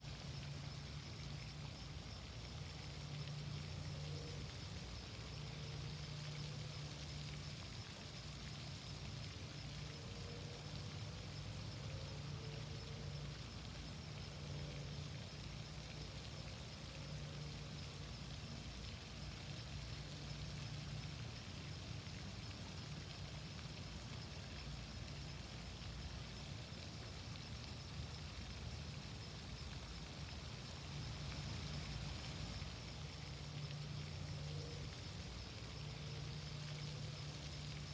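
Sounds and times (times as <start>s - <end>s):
flowing stream: 0.0s - 37.9s
low steady hum: 0.0s - 37.9s.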